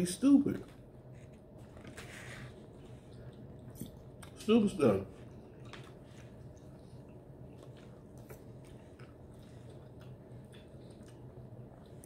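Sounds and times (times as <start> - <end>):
low steady hum: 0.0 - 12.0
faint chewing: 0.6 - 12.0.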